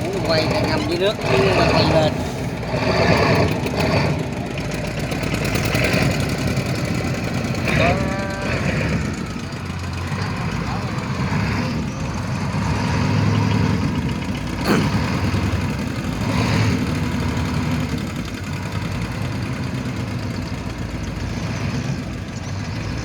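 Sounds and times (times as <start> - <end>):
tugboat engine droning: 0.0 - 23.0.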